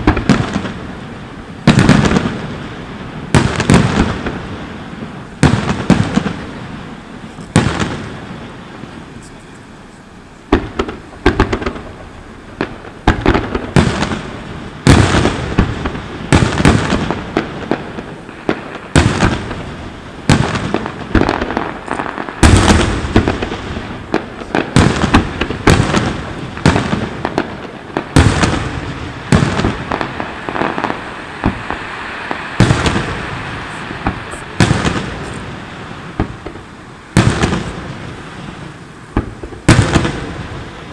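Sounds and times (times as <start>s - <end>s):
fireworks bursting with bangs: 0.0s - 40.9s
fireworks crackling: 0.0s - 40.9s.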